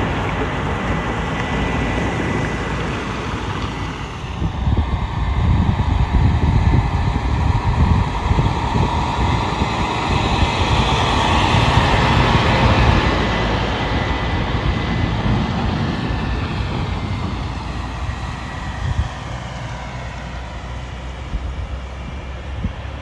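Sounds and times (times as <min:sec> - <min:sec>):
truck diesel engine running: 0:00.0 - 0:23.0
tyres rolling on road: 0:00.0 - 0:23.0.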